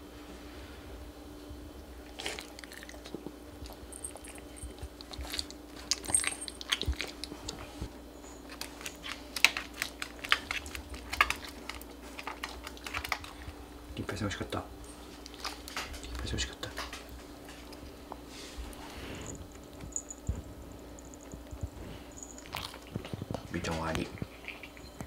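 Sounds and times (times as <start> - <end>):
pet crunching dry kibble: 2.0 - 25.0.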